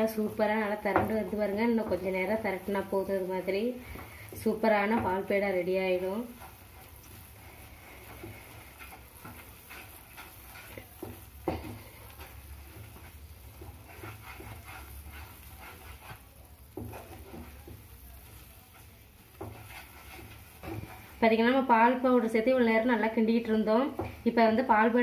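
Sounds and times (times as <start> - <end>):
spatula scraping a frying pan: 0.0 - 25.0
spatula tapping pan: 0.0 - 25.0.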